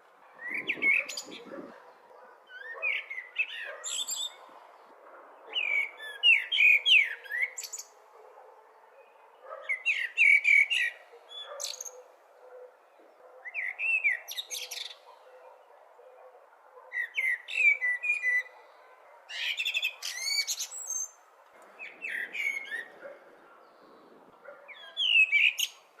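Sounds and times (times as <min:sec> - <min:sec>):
blackbird singing: 0:00.4 - 0:04.5, 0:05.4 - 0:07.9, 0:08.9 - 0:18.6, 0:19.3 - 0:25.9.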